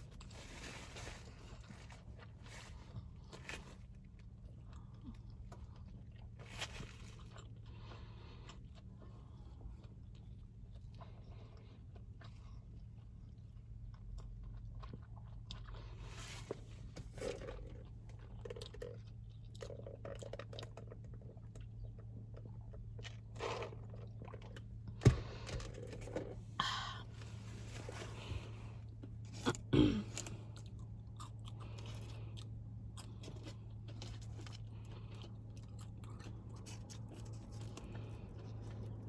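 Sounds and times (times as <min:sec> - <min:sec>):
person chewing food: 0:00.0 - 0:39.0
steady low hum: 0:00.0 - 0:39.0.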